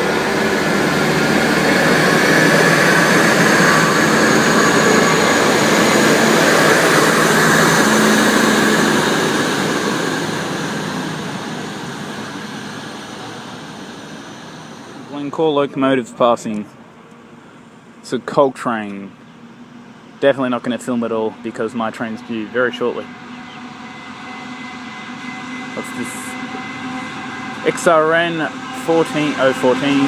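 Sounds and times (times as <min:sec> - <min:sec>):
diesel railcar engine and wheels: 0:00.0 - 0:30.0
faint rising whine: 0:00.0 - 0:30.0.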